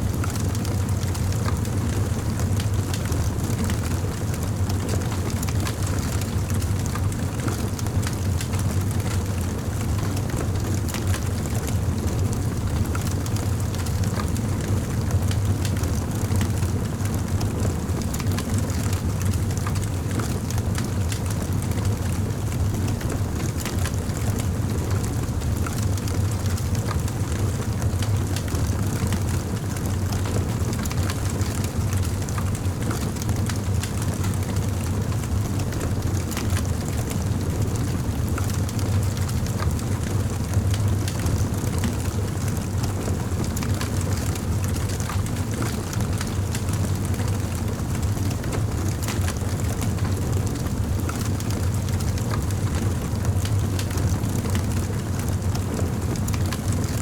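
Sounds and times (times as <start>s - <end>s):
campfire flames rumbling: 0.0s - 57.0s
fire crackles and pops: 0.2s - 9.6s, 12.3s - 57.0s.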